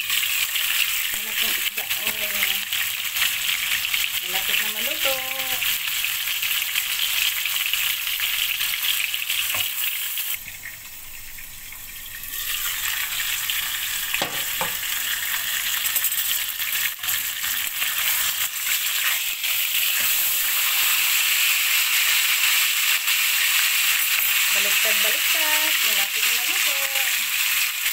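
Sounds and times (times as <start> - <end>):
fish sizzling in hot oil: 0.0 - 27.9.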